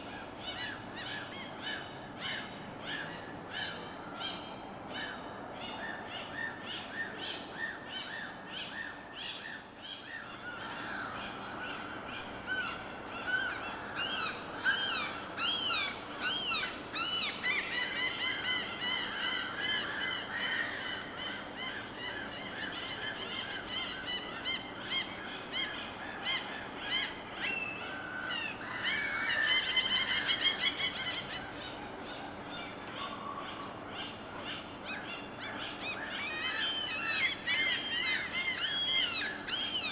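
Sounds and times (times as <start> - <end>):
birds chirping and trilling: 5.7 - 39.9.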